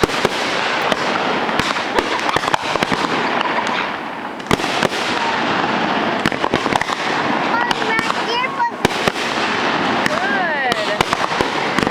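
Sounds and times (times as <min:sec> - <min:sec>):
firework whistle: 0:00.0 - 0:11.9
fireworks crackling and banging: 0:00.0 - 0:11.9.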